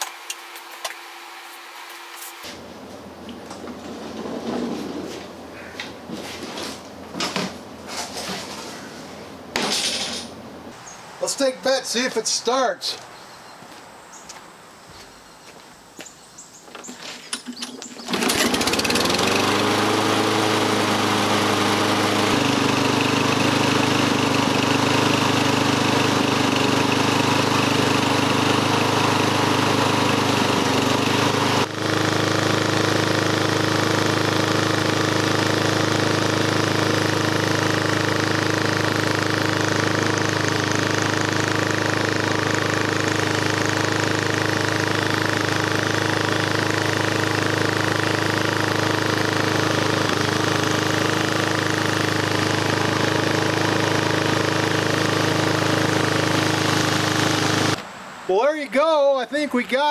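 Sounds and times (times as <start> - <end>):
lawn mower engine running: 0.0 - 13.0, 16.7 - 58.4.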